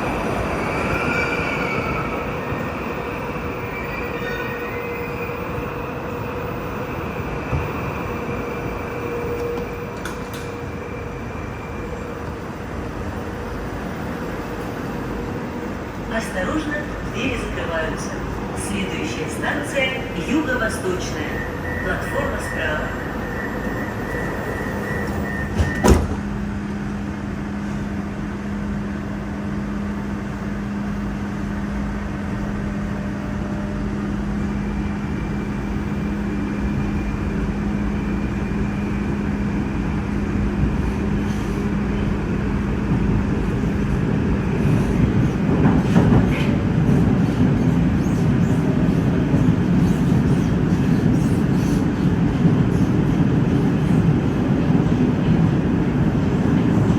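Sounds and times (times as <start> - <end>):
metro train hum: 0.0 - 56.9
train moving off: 0.0 - 56.9.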